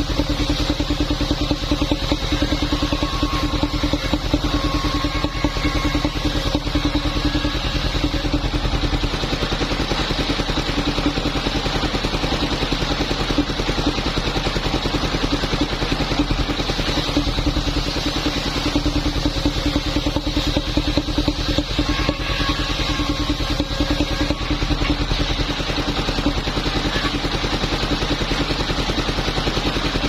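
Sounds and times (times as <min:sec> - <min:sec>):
sawing machine engine running: 0:00.0 - 0:30.0.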